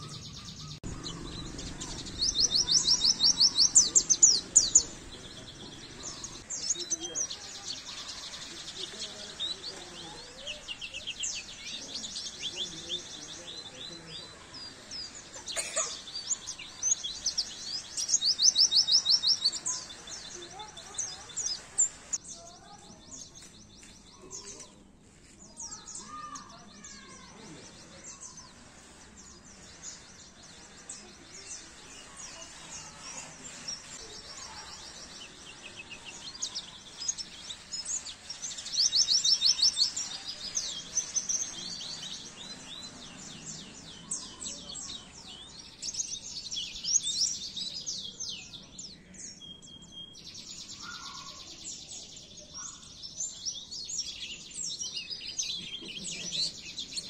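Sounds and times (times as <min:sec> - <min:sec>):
bird twittering trills: 0:00.0 - 0:24.8, 0:25.6 - 0:57.0.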